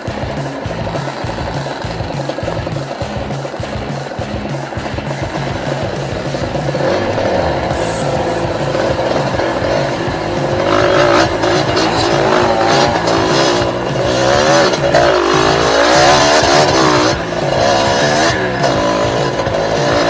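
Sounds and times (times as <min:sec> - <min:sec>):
background music: 0:00.0 - 0:20.0
dirt bike engine revving: 0:00.0 - 0:20.0.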